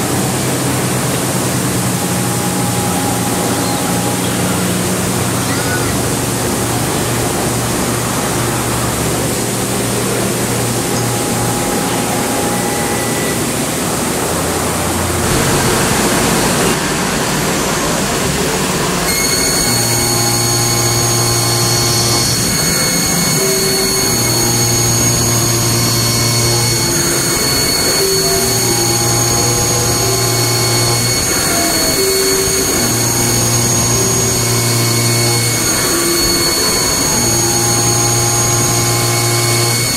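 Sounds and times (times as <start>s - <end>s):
low machine hum: 0.0s - 39.9s
machine hiss and hum: 0.0s - 39.9s
milling machine high whines: 0.0s - 39.9s.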